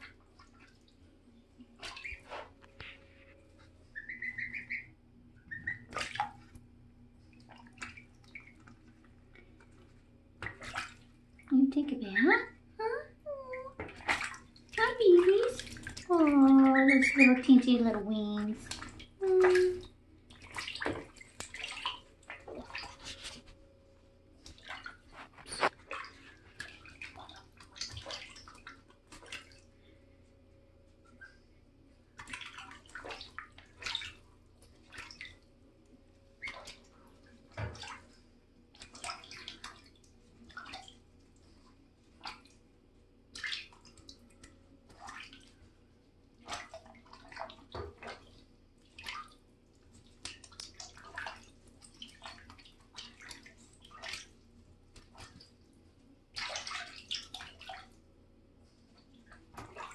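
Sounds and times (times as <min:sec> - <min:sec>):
goslings splashing in water: 0:00.0 - 0:12.6, 0:13.4 - 0:23.6, 0:24.3 - 0:29.8, 0:32.0 - 0:45.8, 0:46.4 - 0:58.0, 0:58.9 - 0:59.9.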